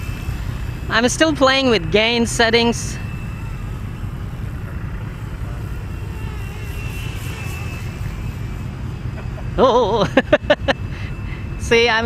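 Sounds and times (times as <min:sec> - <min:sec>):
high motor whine: 0:00.0 - 0:12.0
rc helicopter rotor hum: 0:00.0 - 0:12.0.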